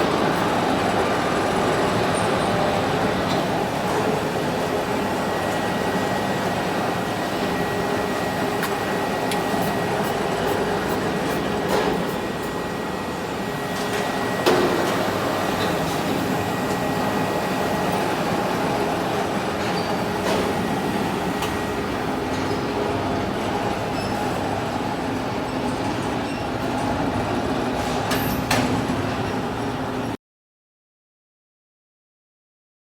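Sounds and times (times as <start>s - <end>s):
machinery hum: 0.0s - 28.1s.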